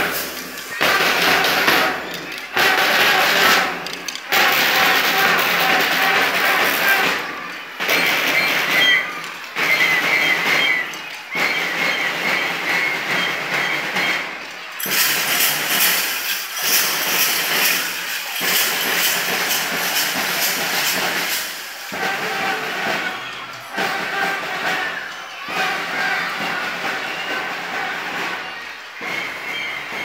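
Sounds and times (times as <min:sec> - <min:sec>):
dense crowd noise: 0:00.0 - 0:30.0.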